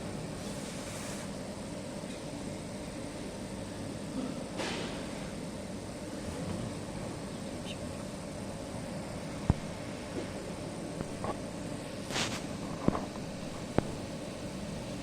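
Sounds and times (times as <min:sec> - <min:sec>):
laser marking machine hum: 0:00.0 - 0:15.0.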